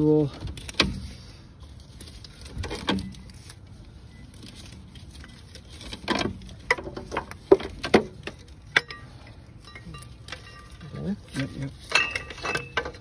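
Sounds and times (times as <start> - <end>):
rustle: 0.0 - 13.0.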